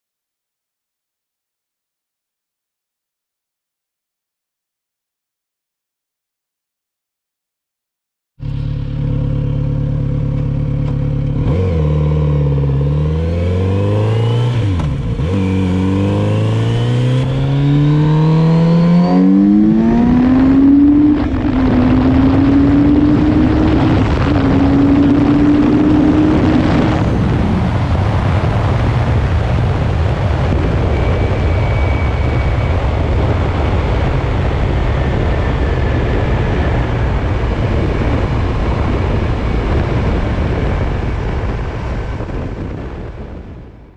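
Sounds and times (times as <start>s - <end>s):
motorcycle engine accelerating: 8.4s - 43.9s
wind and road noise: 8.4s - 43.9s.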